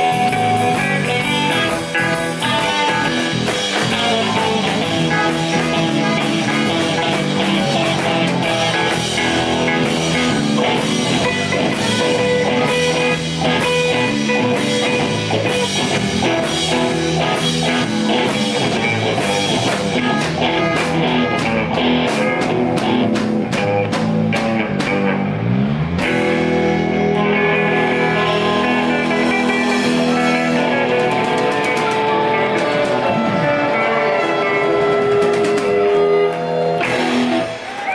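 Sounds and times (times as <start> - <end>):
drum kit beat: 0.0 - 37.9
electric guitar: 0.0 - 37.9.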